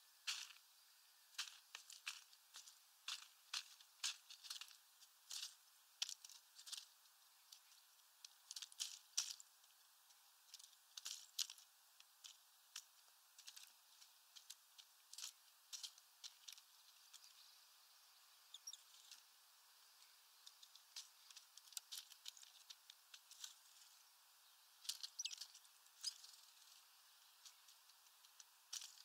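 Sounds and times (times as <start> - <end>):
bird beak tapping seeds: 1.3 - 17.5, 18.5 - 29.0.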